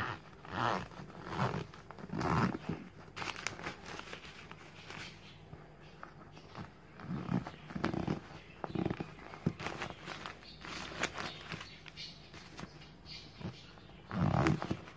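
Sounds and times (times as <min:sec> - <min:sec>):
banknotes rustling and crinkling: 0:00.2 - 0:14.9.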